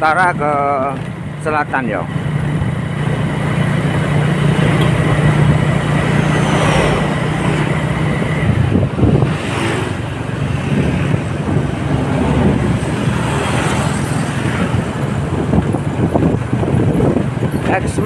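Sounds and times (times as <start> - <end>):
tyre and road noise: 0.0 - 18.0
vehicle engine hum: 0.0 - 18.0
truck passing: 2.0 - 17.2.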